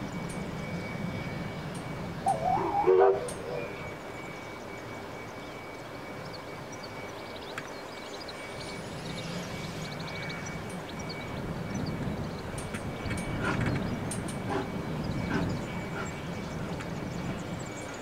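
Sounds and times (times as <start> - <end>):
distant steam locomotive rumble: 0.0 - 18.0
open-air background: 0.0 - 18.0.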